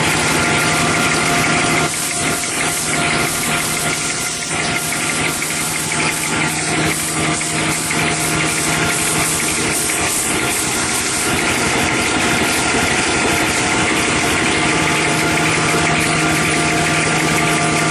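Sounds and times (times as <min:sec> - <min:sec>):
paper log saw machine din: 0:00.0 - 0:17.9.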